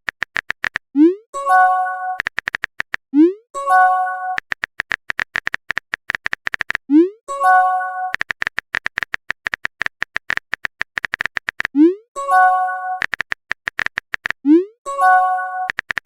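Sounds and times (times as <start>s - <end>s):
phone keyboard typing clicks: 0.0s - 3.2s, 3.8s - 6.9s, 8.0s - 11.9s, 12.5s - 16.0s.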